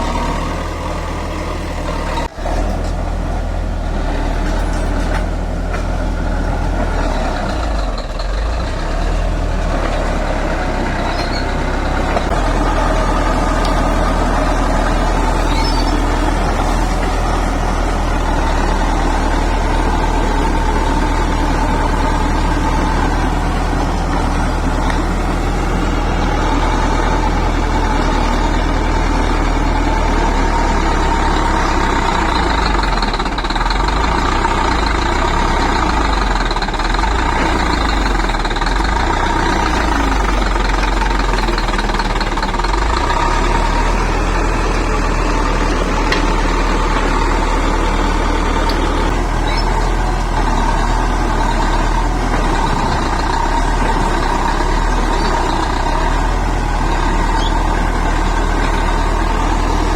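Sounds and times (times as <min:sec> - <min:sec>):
bulldozer diesel engine: 0:00.0 - 0:59.9
engine whine: 0:00.0 - 0:59.9.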